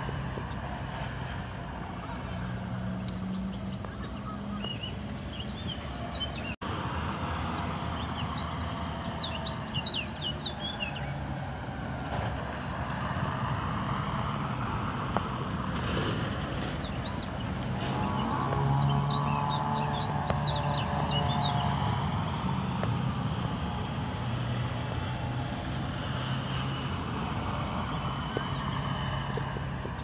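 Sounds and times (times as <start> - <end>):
songbirds chirping and twittering: 0.0 - 30.0.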